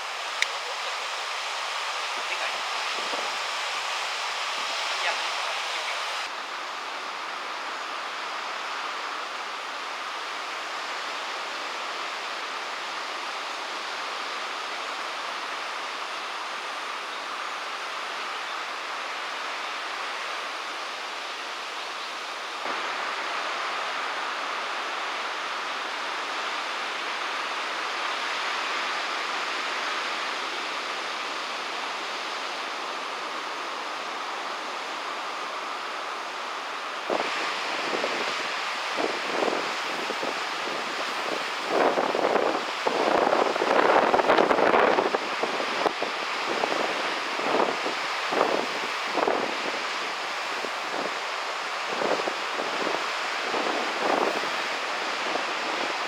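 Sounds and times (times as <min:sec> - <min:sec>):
water spray and surf: 0:00.0 - 0:56.0.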